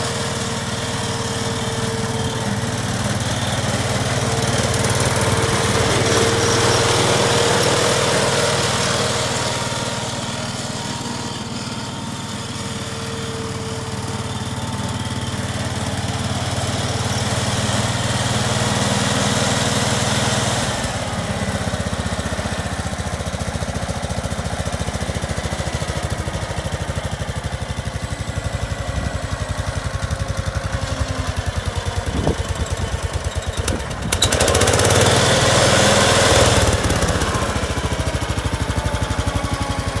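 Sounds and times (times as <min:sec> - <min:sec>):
garden tractor engine running: 0:00.0 - 0:40.0.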